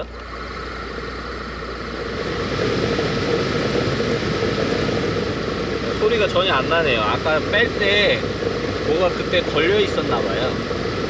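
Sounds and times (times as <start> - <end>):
car engine idling: 0.0 - 11.0
heater blower air rush: 0.0 - 11.0.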